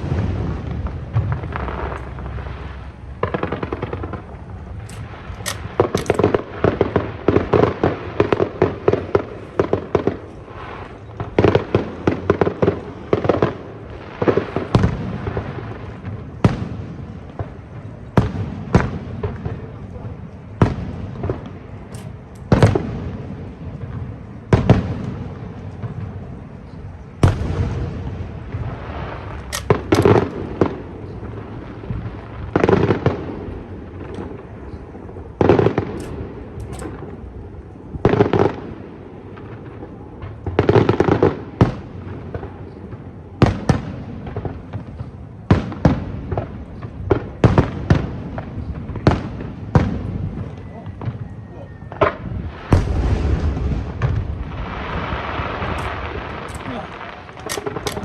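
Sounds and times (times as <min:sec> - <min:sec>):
fireworks bursting with bangs: 0:00.0 - 0:58.0
fireworks crackling: 0:00.0 - 0:58.0.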